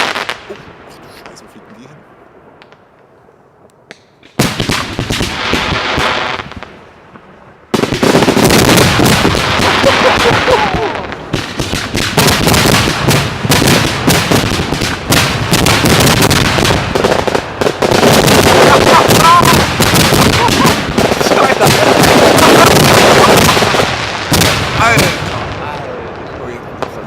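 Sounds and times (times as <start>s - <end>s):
fireworks launching and bursting: 0.0s - 1.5s, 3.9s - 27.0s.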